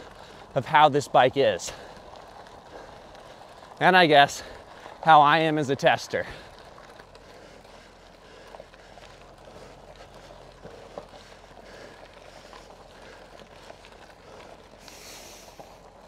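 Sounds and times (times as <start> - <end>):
bicycle tyre and drivetrain noise: 0.0 - 16.0.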